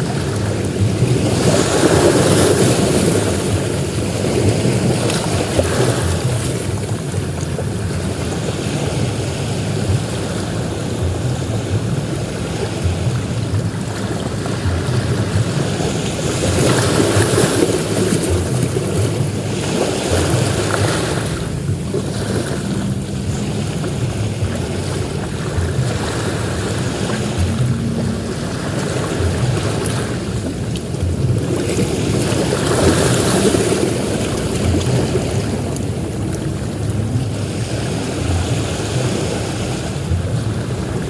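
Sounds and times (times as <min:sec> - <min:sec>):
sea waves breaking on beach: 0:00.0 - 0:41.0.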